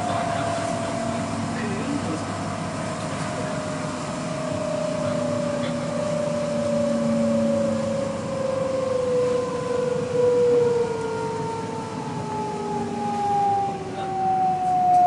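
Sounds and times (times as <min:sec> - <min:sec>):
train motors whining: 0:00.0 - 0:15.0
wheels rumbling on track: 0:00.0 - 0:15.0.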